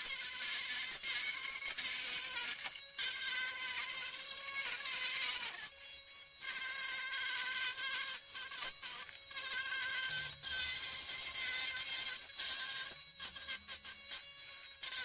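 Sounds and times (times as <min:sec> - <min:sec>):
rotary tool sanding metal: 0:00.0 - 0:15.0.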